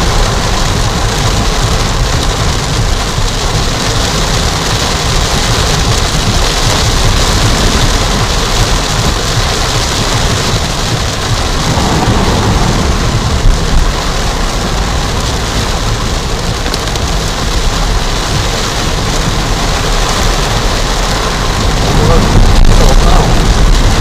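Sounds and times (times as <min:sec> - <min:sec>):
car low rumble: 0:00.0 - 0:24.0
torrential rain on a car: 0:00.0 - 0:24.0.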